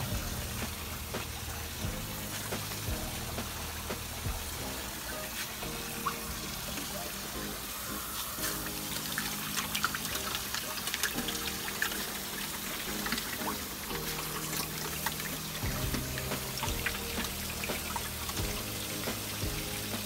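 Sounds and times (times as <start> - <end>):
background music with held chords: 0.0 - 20.0
water pouring and trickling: 0.0 - 20.0.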